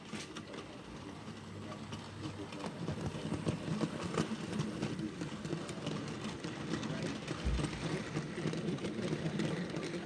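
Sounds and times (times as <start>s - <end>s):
model train motor hum: 0.0s - 10.0s.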